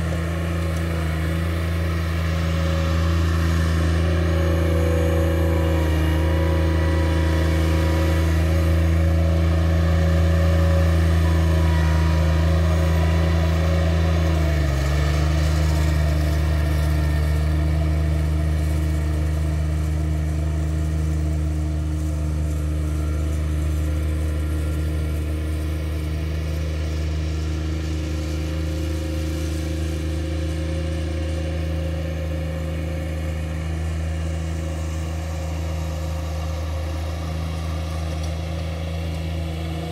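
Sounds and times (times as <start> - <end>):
ride-on mower engine humming: 0.0 - 39.9.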